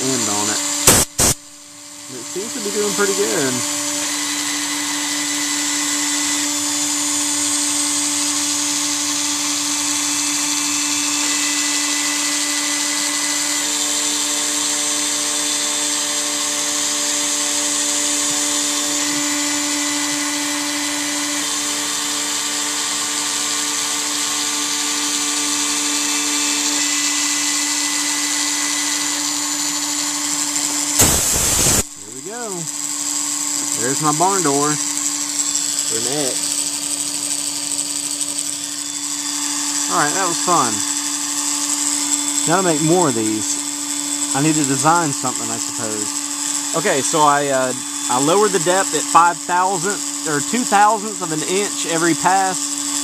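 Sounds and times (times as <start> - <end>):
router spindle whine: 0.0 - 53.0
hiss of cutting plastic: 0.3 - 1.5, 9.4 - 32.7, 33.5 - 53.0.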